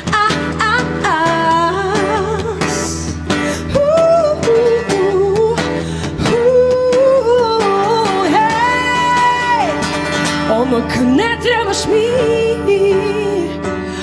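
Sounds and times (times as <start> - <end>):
strummed acoustic guitar: 0.0 - 14.0
woman singing with vibrato: 0.0 - 14.0.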